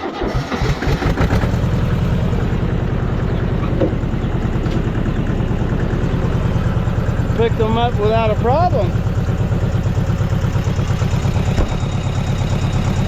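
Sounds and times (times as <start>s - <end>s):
engine starting and running: 0.0s - 13.0s.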